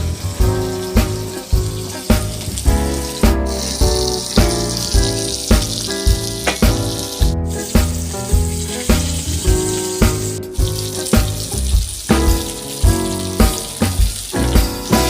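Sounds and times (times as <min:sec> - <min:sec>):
background music with steady beat: 0:00.0 - 0:15.0
steady hiss: 0:00.0 - 0:15.0.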